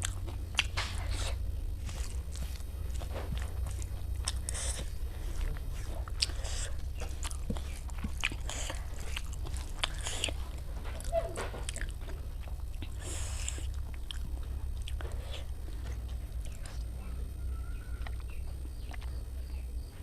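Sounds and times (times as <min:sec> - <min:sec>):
chewing and crunching food: 0:00.0 - 0:20.0
steady low hum: 0:00.0 - 0:20.0.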